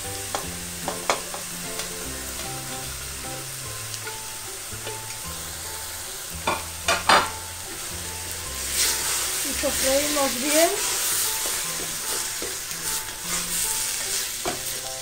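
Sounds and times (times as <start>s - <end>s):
quiet background tune: 0.0s - 15.0s
vegetables sizzling in oil: 0.0s - 15.0s.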